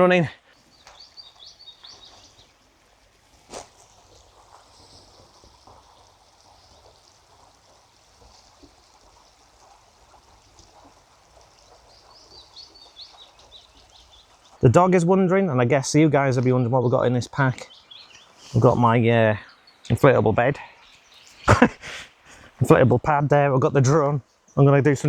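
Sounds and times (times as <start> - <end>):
river flowing: 0.0 - 24.7
small birds chirping: 0.0 - 25.0.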